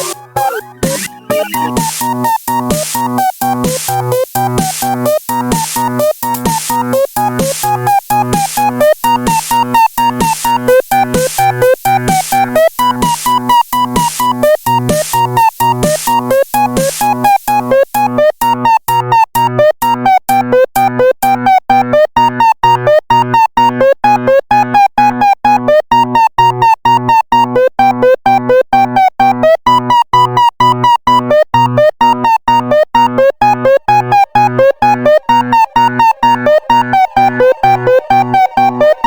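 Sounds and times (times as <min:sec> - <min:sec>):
synthesizer choppy chords: 0:00.0 - 0:39.0.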